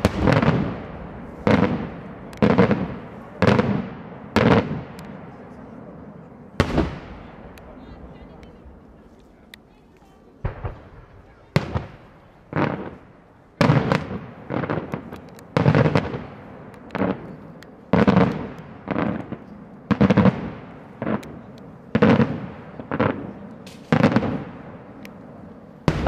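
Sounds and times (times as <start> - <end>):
fireworks bursting with loud bangs: 0.0 - 26.0.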